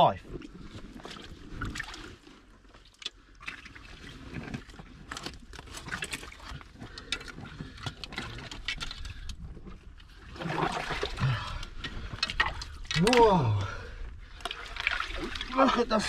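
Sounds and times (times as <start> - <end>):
water sloshing in rock pool: 0.0 - 16.0.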